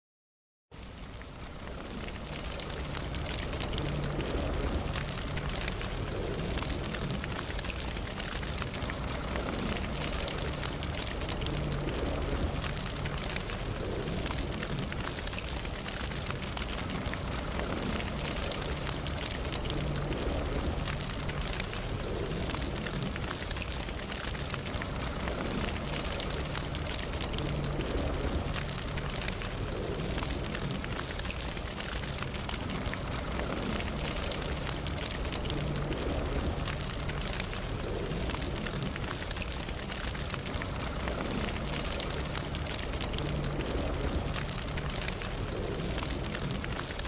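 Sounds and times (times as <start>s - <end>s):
campfire crackling: 0.8s - 47.0s
low rush of flames: 0.8s - 47.0s.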